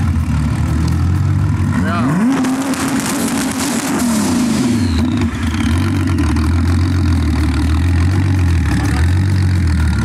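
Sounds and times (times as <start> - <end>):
car engine revving and idling: 0.0 - 10.0.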